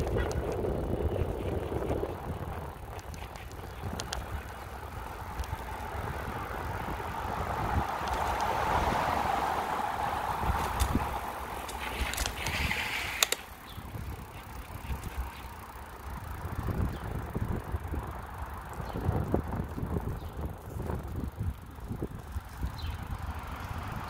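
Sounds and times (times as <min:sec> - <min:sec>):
sharp clicks and rattles: 0:00.0 - 0:06.8, 0:07.9 - 0:08.7, 0:10.4 - 0:23.6
bicycle rolling on asphalt: 0:00.0 - 0:24.0
wind buffeting microphone: 0:00.0 - 0:24.0.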